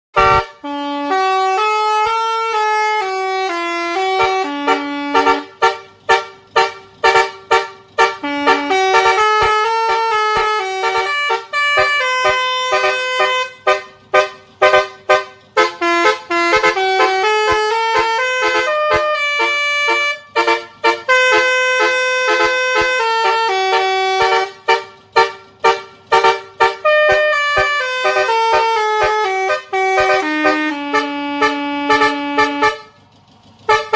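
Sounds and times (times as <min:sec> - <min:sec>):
bus horn playing a melody: 0:00.1 - 0:33.9.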